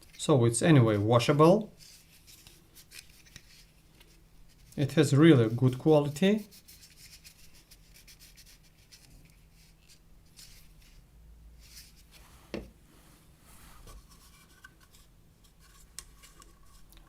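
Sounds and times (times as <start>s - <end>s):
soft rubbing of plastic parts: 0.0s - 17.0s.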